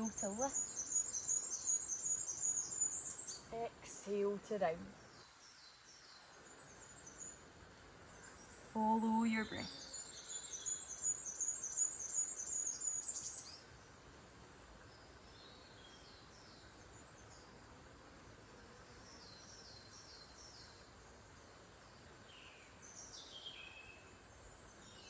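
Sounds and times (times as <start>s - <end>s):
outdoor hiss: 0.0s - 25.0s.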